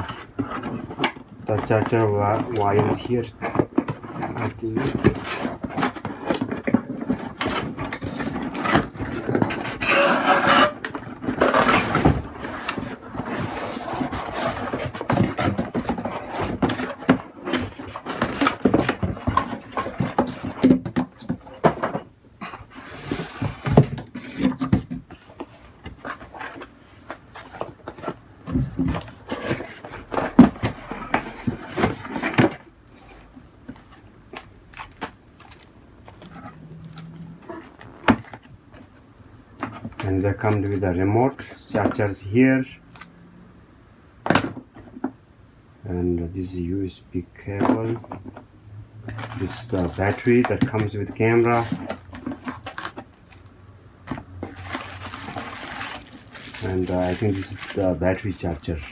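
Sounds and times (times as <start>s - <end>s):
packaging rustling: 0.0s - 21.7s, 22.4s - 39.0s, 49.1s - 58.9s.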